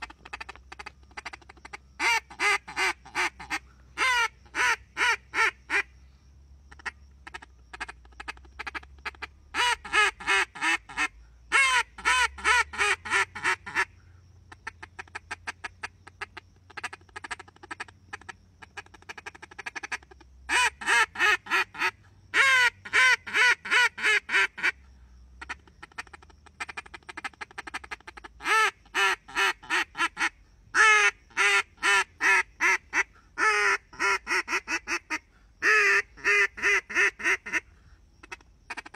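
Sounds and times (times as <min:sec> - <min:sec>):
duck call quacks: 0:00.0 - 0:05.9, 0:06.7 - 0:13.9, 0:14.6 - 0:24.8, 0:25.4 - 0:38.9.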